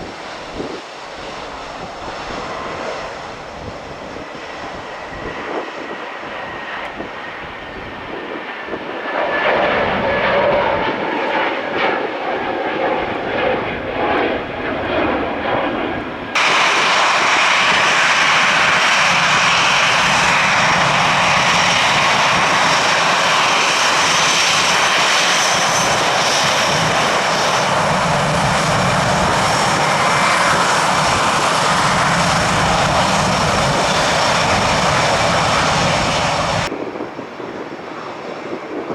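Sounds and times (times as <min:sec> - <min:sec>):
passing jet aircraft: 0:00.0 - 0:38.9
steady jet engine noise: 0:00.0 - 0:38.9.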